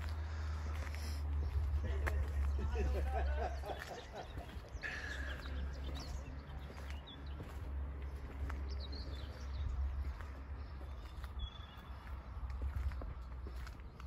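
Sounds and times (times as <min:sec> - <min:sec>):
faint footsteps: 0:00.0 - 0:14.0.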